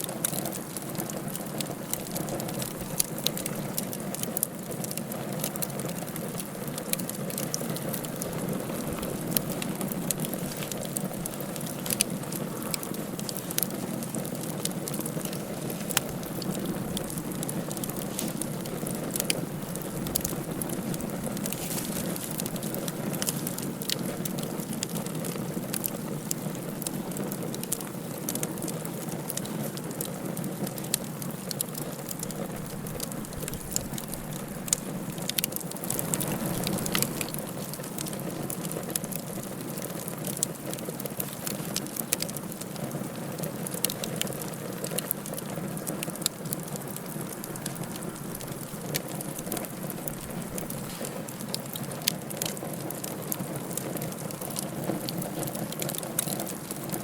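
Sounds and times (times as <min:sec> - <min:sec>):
low rushing hiss of fire: 0:00.0 - 0:57.0
wood fire crackling and popping: 0:00.0 - 0:57.0.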